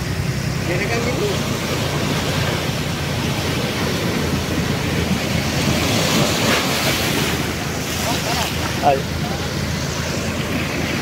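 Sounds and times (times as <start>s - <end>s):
surf breaking on beach: 0.0s - 11.0s
wind on microphone: 1.4s - 11.0s.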